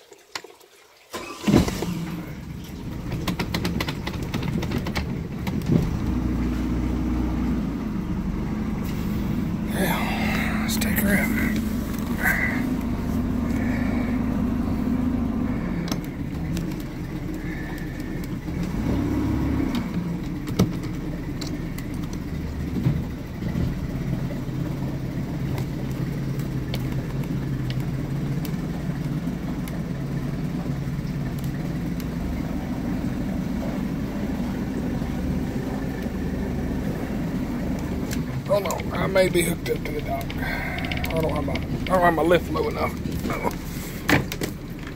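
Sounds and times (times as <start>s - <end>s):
boat engine idling: 1.2s - 44.9s.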